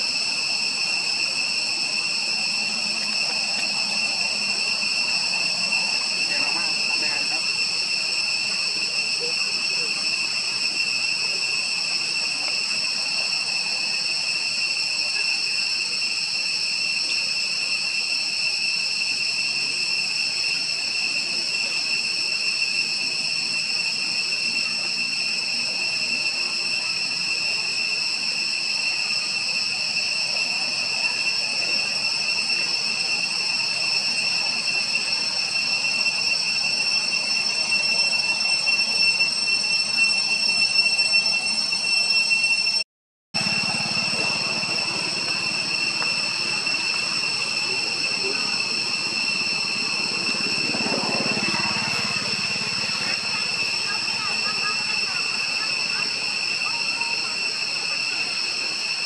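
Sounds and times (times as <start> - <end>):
high-pitched insect chorus: 0.0 - 42.8, 43.4 - 59.0.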